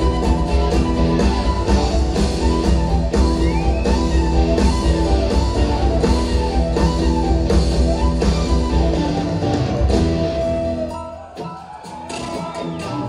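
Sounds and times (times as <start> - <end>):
drum kit beat: 0.0 - 13.0
electric guitar: 0.0 - 13.0
live rock band playing: 0.0 - 13.0.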